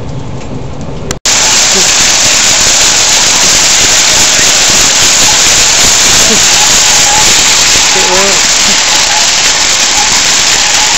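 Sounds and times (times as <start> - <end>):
fountain water splashing on paving: 1.3 - 10.9.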